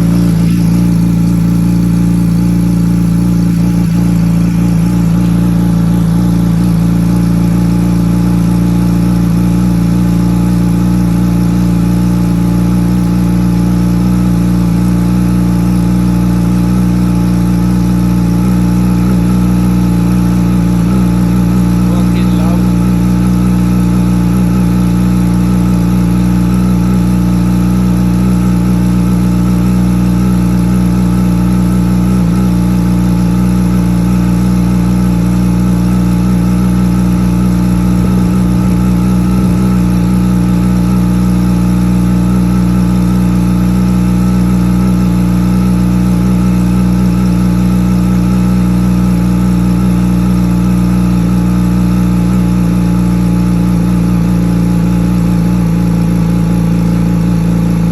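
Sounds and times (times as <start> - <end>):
motorcycle engine idling: 0.0 - 57.9.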